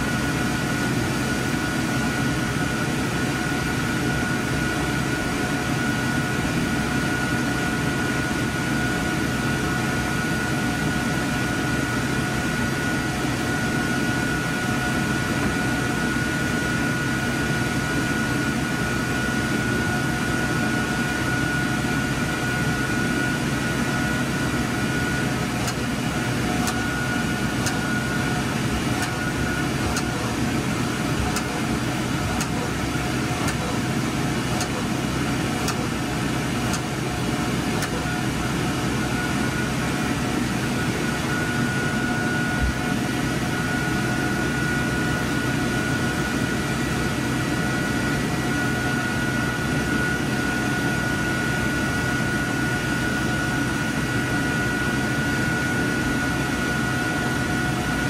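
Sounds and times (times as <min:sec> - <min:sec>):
projector machinery and fans whirring: 0:00.0 - 0:58.0.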